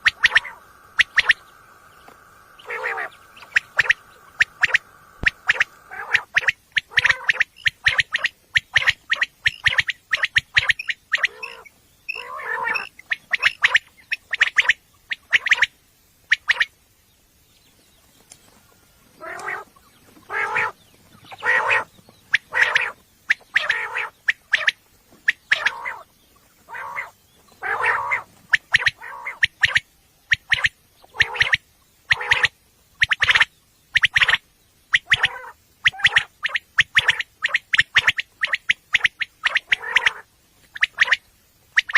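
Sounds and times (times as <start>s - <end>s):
quail calling: 0.0s - 15.7s, 18.5s - 41.9s.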